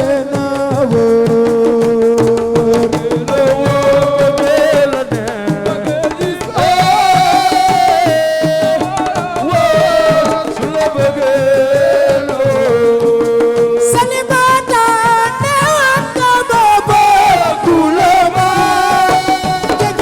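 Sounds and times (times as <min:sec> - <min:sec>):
hand drums fast rhythm: 0:00.0 - 0:20.0.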